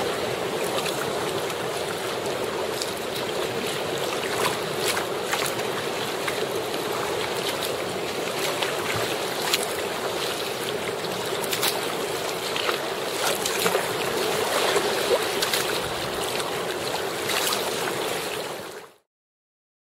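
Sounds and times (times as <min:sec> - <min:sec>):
sea water sloshing and splashing: 0:00.0 - 0:19.0.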